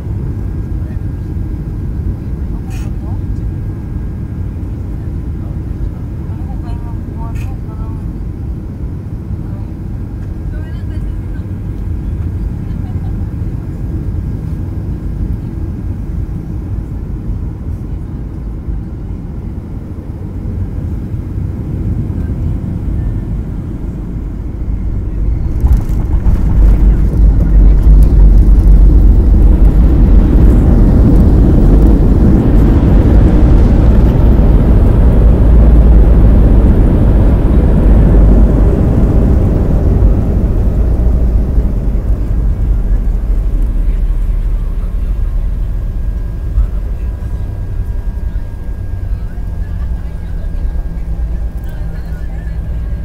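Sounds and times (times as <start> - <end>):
airliner cabin rumble: 0.0 - 53.0.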